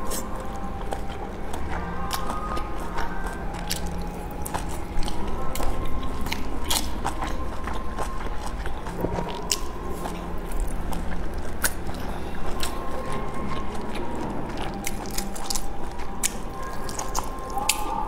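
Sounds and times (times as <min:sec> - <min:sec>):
biting and chewing: 0:00.0 - 0:18.0
faint steady hum: 0:00.0 - 0:18.0.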